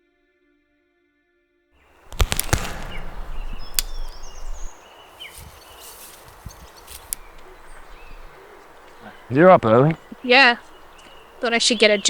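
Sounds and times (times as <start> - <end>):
birds chirping: 1.9 - 12.0
brush rustling: 2.0 - 12.0
dry sticks cracking: 2.0 - 12.0.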